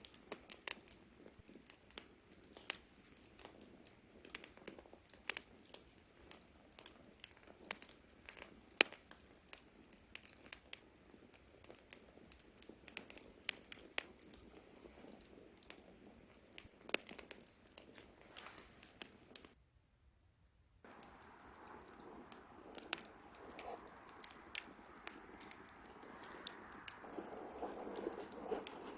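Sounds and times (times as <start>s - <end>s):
campfire crackling and popping: 0.0s - 19.6s, 20.8s - 28.9s
faint hiss of burning: 0.0s - 19.6s, 20.8s - 28.9s.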